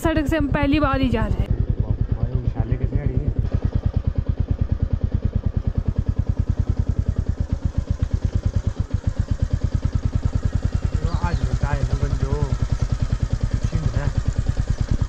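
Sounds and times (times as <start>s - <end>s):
motorcycle engine at low speed: 0.0s - 15.0s.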